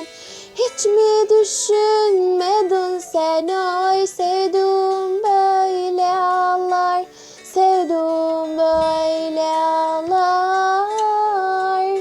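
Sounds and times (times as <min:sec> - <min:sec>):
girl singing held notes: 0:00.0 - 0:12.0.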